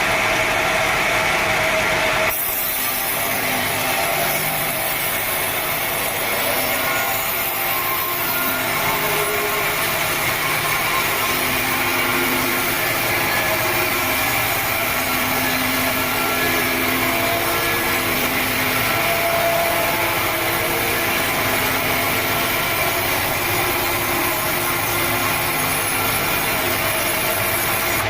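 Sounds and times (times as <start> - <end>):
sawmill saw cutting log: 0.0 - 28.0.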